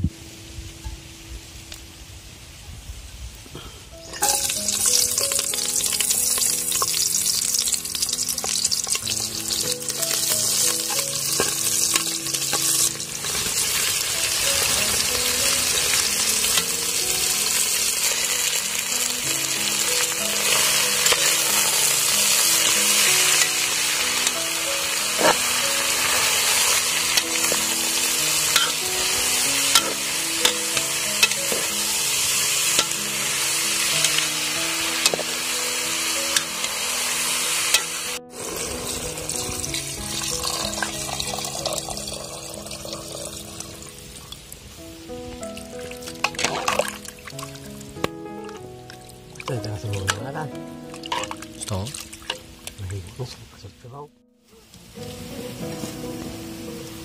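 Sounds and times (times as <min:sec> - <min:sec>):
food sizzling in hot oil: 0:04.0 - 0:50.2, 0:50.9 - 0:52.8, 0:54.8 - 0:57.0.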